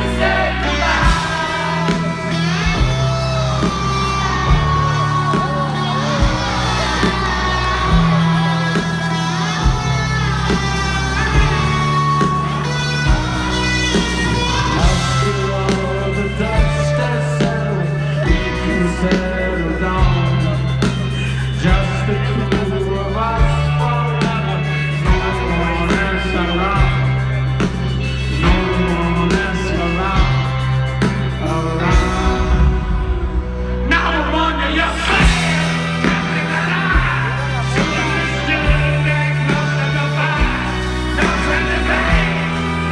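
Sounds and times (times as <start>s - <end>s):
bass holding notes: 0.0s - 42.9s
rock band playing live: 0.0s - 42.9s
sung lead vocal: 0.0s - 42.9s.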